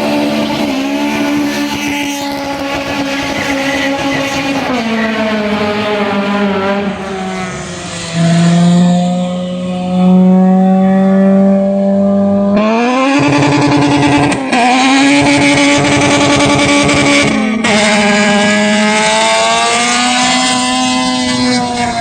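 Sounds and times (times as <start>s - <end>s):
car engine revving hard: 0.0s - 22.0s.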